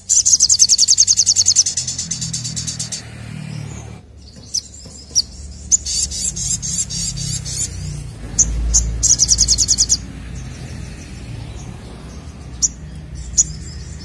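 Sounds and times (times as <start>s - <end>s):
bird singing high chirps and trill: 0.0s - 14.0s.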